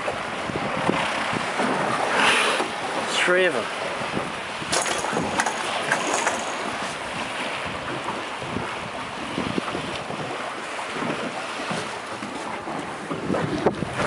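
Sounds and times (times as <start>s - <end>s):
sea washing around boat: 0.0s - 14.0s
wind buffeting microphone: 0.0s - 14.0s.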